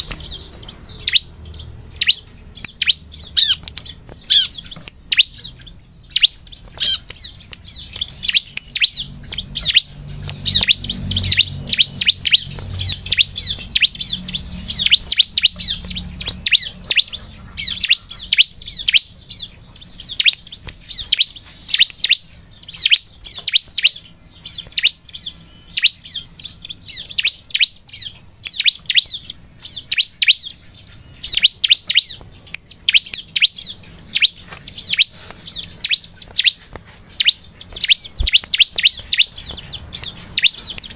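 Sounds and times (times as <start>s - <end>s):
bird sharp high chirps: 0.0s - 40.9s.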